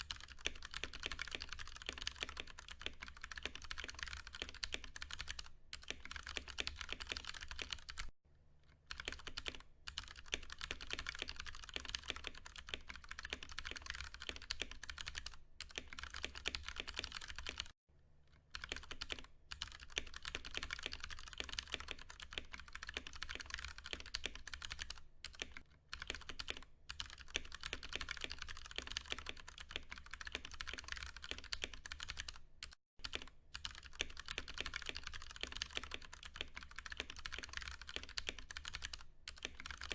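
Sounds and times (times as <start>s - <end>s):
mechanical keyboard typing: 0.0s - 8.1s, 8.9s - 17.8s, 18.5s - 39.9s.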